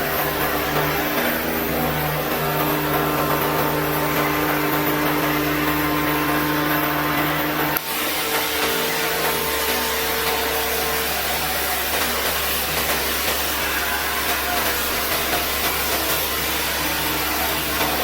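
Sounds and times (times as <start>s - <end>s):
cutting torch hissing: 0.0s - 18.0s
machine hum: 0.0s - 18.0s.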